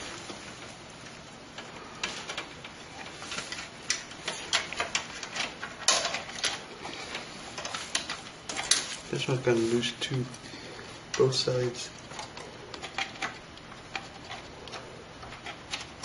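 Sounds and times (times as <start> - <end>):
hands handling cables and connectors: 0.1 - 16.0.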